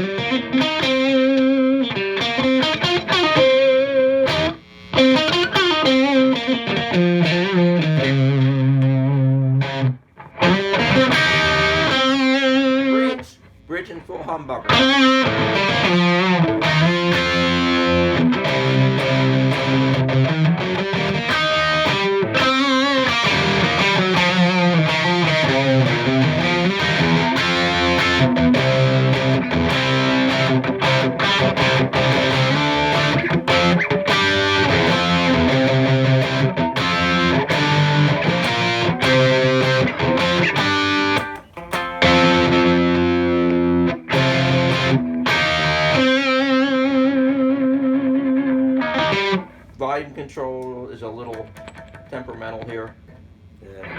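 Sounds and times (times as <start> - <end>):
distorted electric guitar: 0.0 - 13.5, 14.6 - 49.7.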